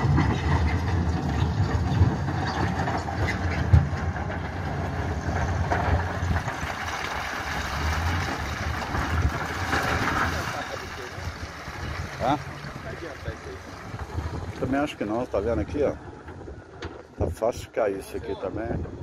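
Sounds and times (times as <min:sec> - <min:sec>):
diesel engine running at low revs: 0:00.0 - 0:17.6.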